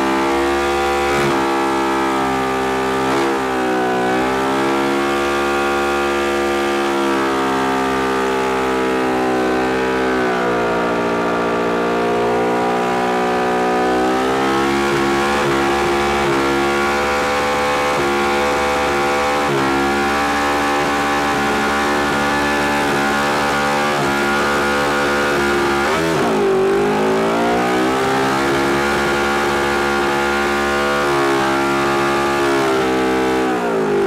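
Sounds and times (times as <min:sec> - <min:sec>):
engine wailing at high revs: 0:00.0 - 0:34.0.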